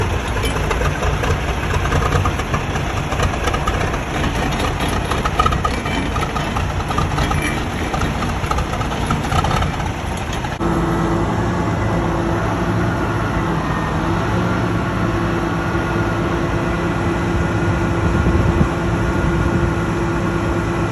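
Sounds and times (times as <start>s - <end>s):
truck diesel engine running: 0.0s - 20.9s.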